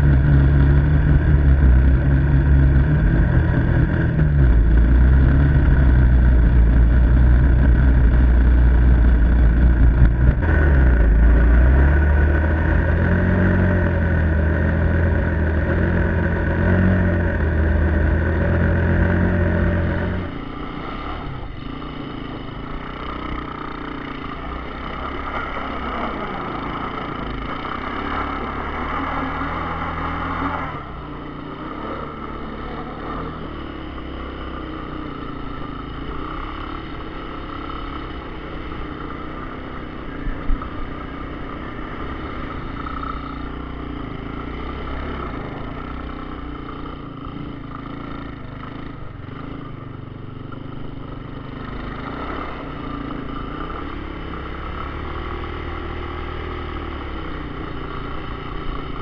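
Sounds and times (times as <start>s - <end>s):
three-wheeler engine running: 0.0s - 59.0s.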